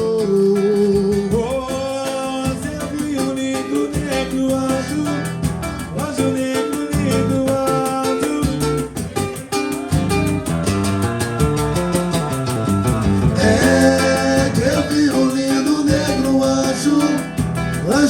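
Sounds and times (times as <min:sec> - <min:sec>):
fast percussion beat: 0:00.0 - 0:18.0
plucked strings melody: 0:01.6 - 0:18.0.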